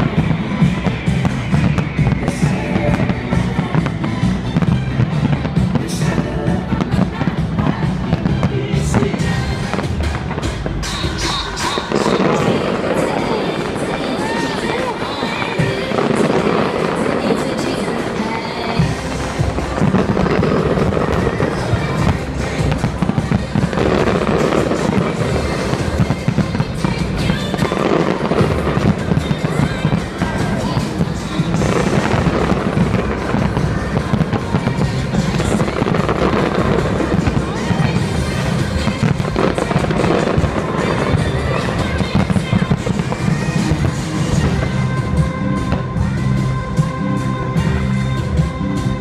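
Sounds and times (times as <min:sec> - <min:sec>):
fireworks bangs and crackles: 0:00.0 - 0:49.0
music playing: 0:00.0 - 0:49.0.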